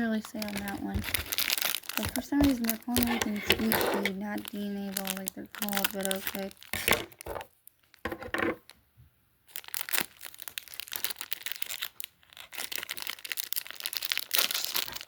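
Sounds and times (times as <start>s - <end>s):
plastic packaging crinkling: 0.0s - 8.8s, 9.5s - 15.0s.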